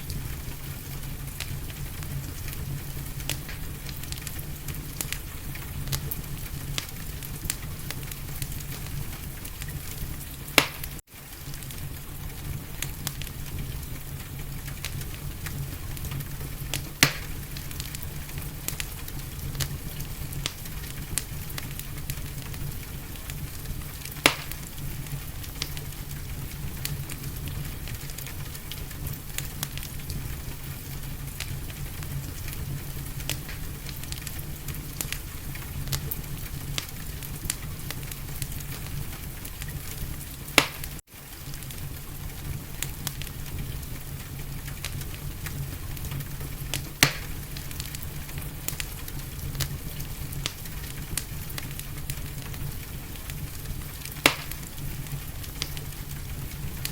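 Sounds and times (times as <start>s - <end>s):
loud sharp fire pops: 0.0s - 56.9s
wood fire crackling: 0.0s - 56.9s.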